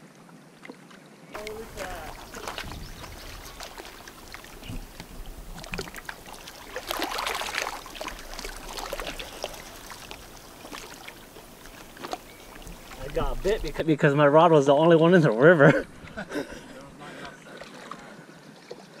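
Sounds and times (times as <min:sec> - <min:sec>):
river water: 0:00.0 - 0:19.0
wind: 0:00.0 - 0:19.0.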